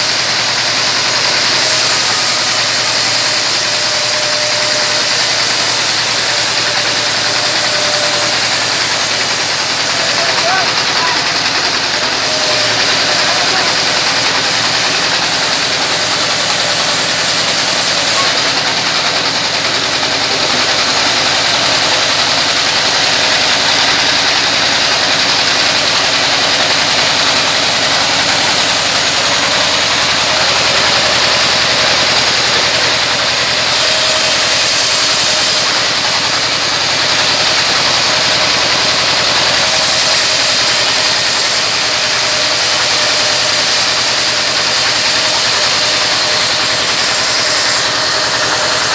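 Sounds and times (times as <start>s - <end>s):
band saw cutting wood: 0.0s - 48.9s
diesel engine running: 0.0s - 48.9s.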